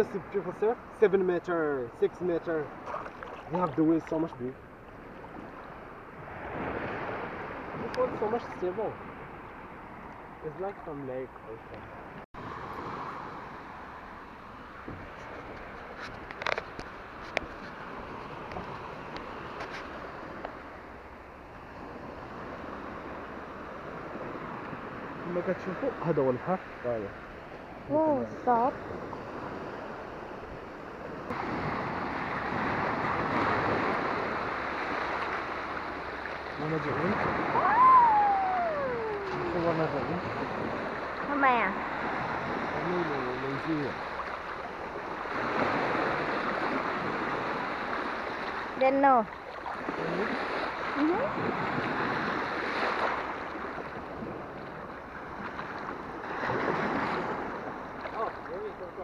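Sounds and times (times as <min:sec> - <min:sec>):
small waves washing on sand: 0:00.0 - 0:59.0.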